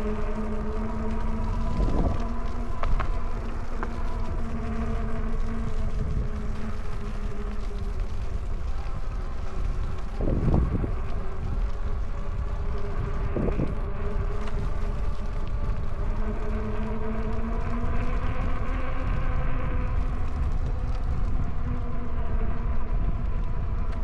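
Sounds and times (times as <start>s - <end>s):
electric bike motor whining: 0.0s - 23.9s
wind: 0.0s - 24.0s.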